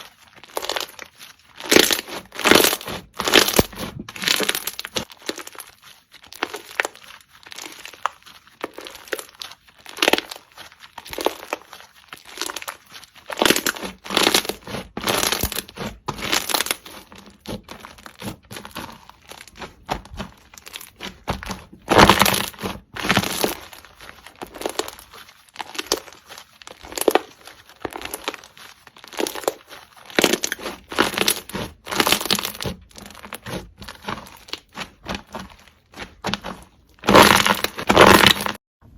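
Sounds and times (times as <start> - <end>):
slime squished by hand: 0.0 - 38.6.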